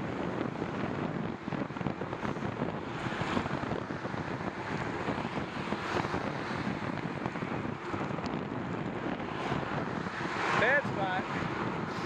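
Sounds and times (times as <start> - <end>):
road traffic passing: 0.0 - 12.0
wind rushing over microphone: 0.0 - 12.0.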